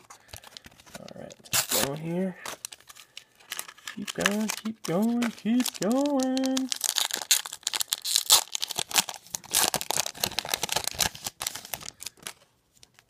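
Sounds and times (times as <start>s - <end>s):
foil wrapper ripping and crinkling: 0.0s - 12.4s.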